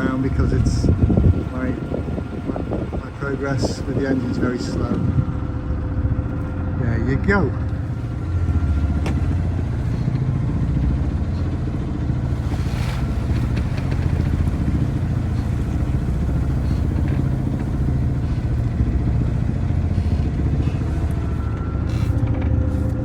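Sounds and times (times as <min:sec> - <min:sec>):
boat inboard engine droning: 0:00.0 - 0:23.0.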